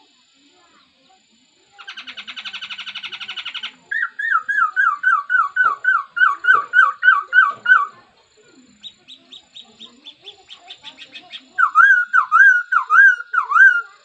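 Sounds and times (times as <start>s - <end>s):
bird trilling: 1.8s - 8.0s, 8.7s - 14.0s.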